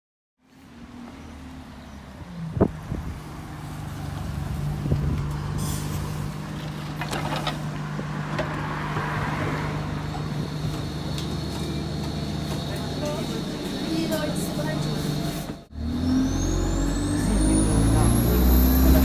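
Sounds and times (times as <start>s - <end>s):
bus diesel engine hum: 0.4s - 19.0s.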